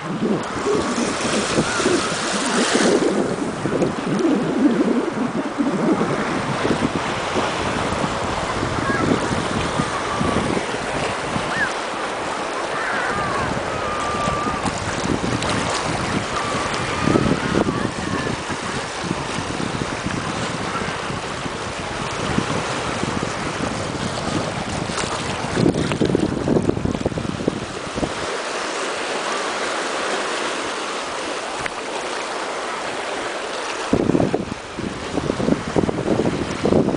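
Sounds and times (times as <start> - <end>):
small waves lapping on rocky shore: 0.0 - 36.9
wind buffeting microphone: 0.0 - 36.9.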